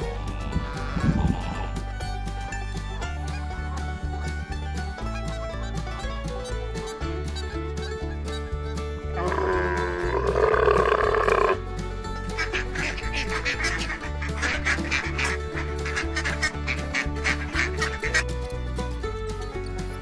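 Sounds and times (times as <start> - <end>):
music with bass beat: 0.0 - 20.0.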